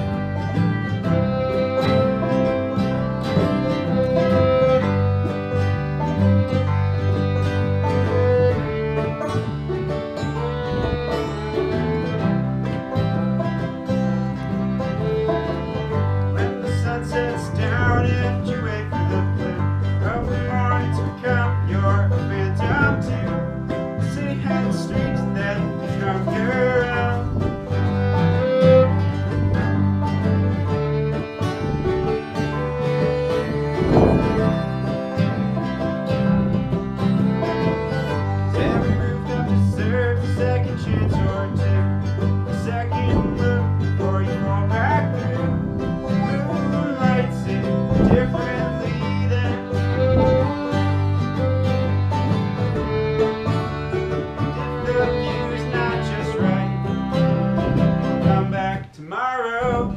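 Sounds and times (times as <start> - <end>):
guitar picking: 0.0 - 58.9
banjo picking: 0.0 - 59.9.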